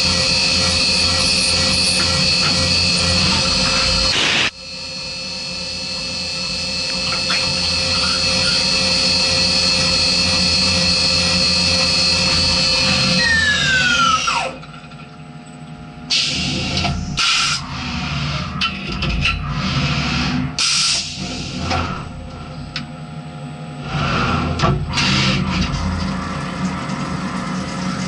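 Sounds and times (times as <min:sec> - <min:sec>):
milling machine spindle whine: 0:00.0 - 0:28.0.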